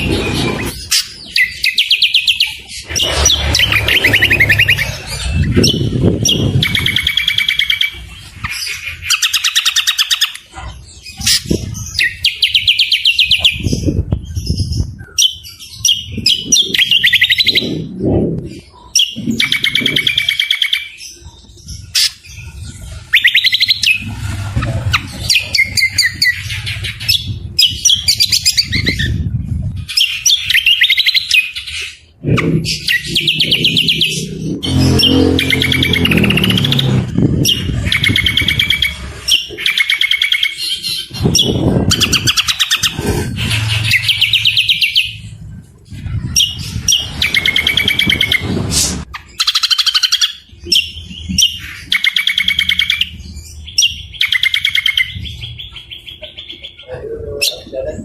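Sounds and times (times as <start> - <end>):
songbirds trilling and chattering: 0.0 - 58.0.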